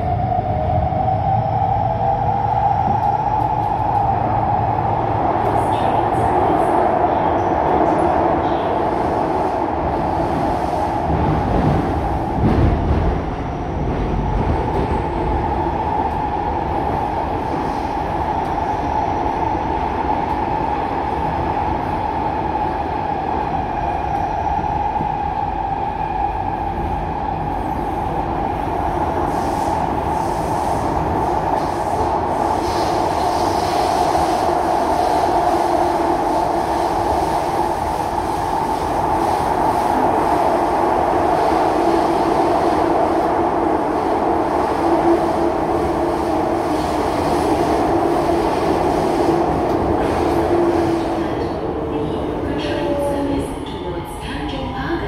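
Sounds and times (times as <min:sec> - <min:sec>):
train running in tunnel: 0:00.0 - 0:55.0.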